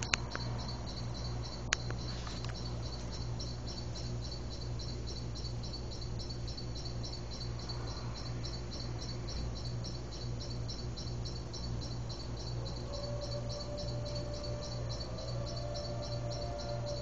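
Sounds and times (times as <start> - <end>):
insects chirping: 0.0 - 17.0
low steady hum: 0.0 - 17.0.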